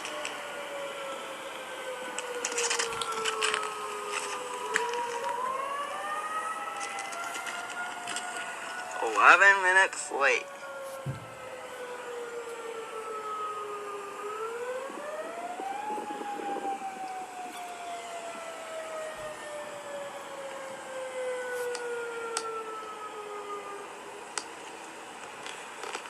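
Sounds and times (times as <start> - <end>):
tornado warning siren wailing: 0.0 - 26.0.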